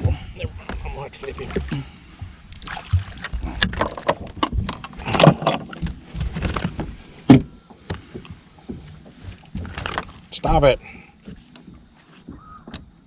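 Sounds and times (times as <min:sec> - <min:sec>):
water splashing: 0:00.0 - 0:12.4
knocking in boat: 0:00.0 - 0:13.0.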